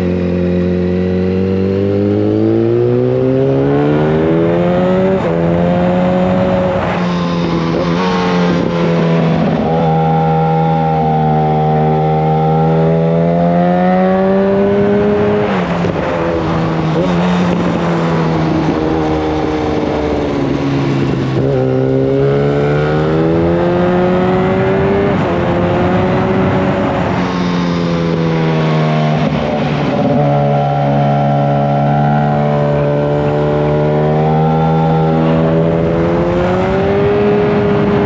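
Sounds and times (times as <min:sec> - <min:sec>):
loud motorcycle engine revving: 0:00.0 - 0:38.0.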